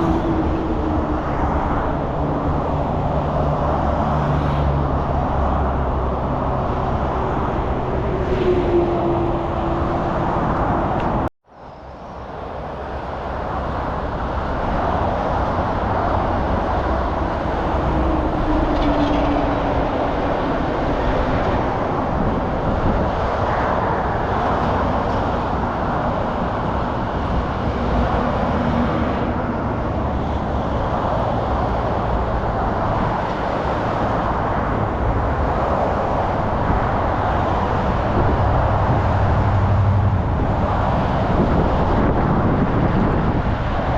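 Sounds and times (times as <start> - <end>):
passing vehicles humming: 0.0 - 43.9
road traffic rumble: 0.0 - 43.9.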